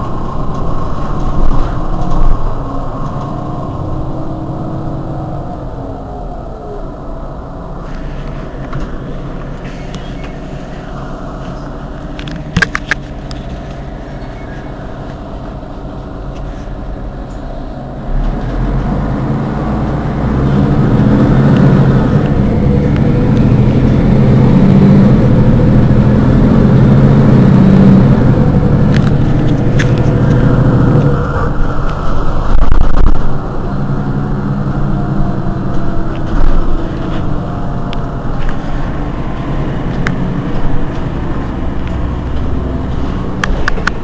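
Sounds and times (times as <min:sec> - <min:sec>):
bus diesel engine idling: 0:00.0 - 0:44.0.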